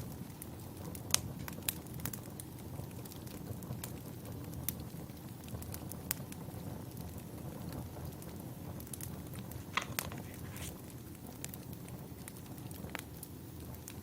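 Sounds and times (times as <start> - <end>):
low steady fire rumble: 0.0 - 14.0
wood fire crackling and popping: 0.0 - 14.0.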